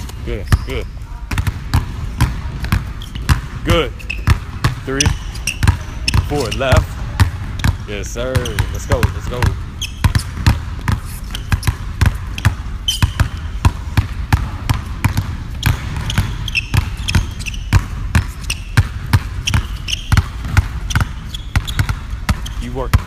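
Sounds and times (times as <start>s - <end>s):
basketballs bouncing on wooden floor: 0.0s - 23.0s.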